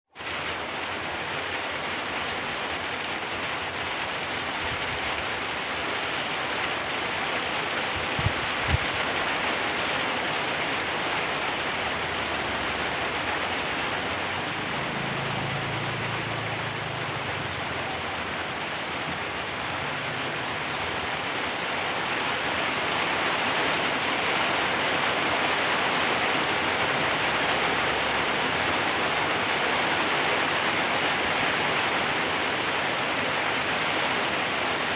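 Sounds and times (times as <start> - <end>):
steady rain pouring: 0.1 - 34.9.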